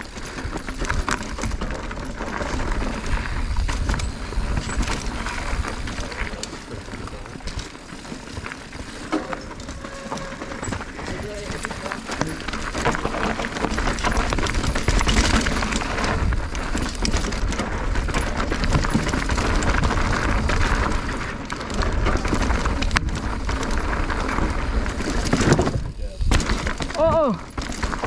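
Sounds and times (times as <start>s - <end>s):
wind rumble on microphone: 0.0s - 7.6s, 12.8s - 28.0s
bike rattling over rocks: 0.0s - 28.0s.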